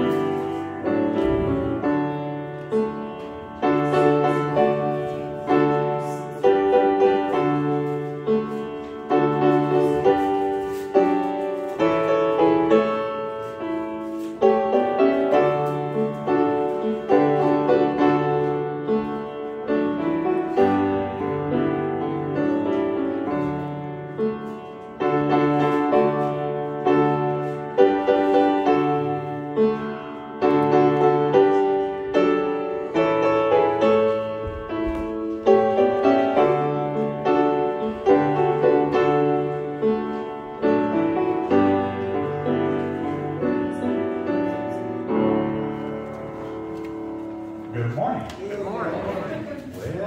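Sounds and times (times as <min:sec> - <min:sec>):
piano chords: 0:00.0 - 0:50.0.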